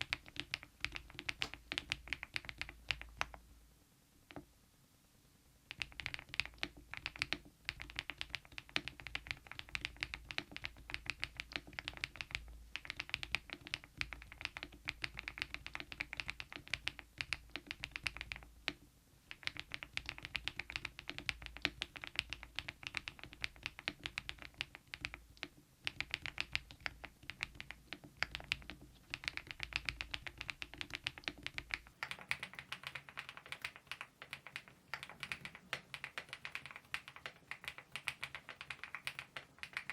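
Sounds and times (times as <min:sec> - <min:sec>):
mechanical keyboard typing: 0:00.0 - 0:03.4, 0:05.7 - 0:18.5, 0:19.3 - 0:39.9.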